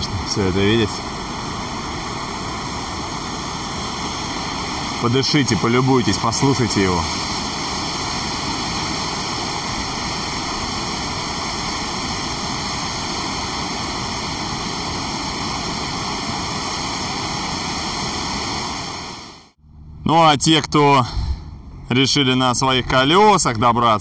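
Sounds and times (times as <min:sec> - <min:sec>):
waterfall roaring: 0:00.0 - 0:19.5.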